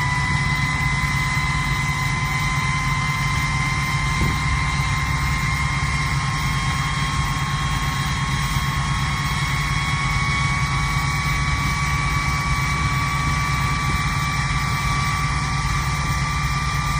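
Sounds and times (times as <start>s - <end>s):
diesel engine exhaust rumble: 0.0s - 16.9s.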